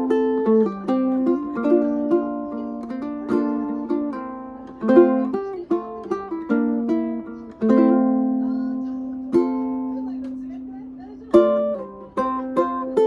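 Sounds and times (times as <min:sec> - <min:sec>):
ukulele playing: 0:00.0 - 0:13.0.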